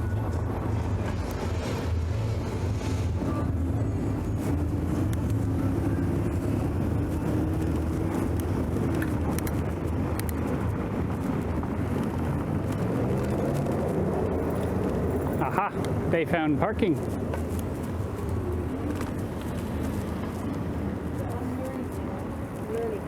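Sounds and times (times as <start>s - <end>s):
faint engine hum: 0.0s - 23.0s
low rumble of traffic: 0.0s - 23.0s.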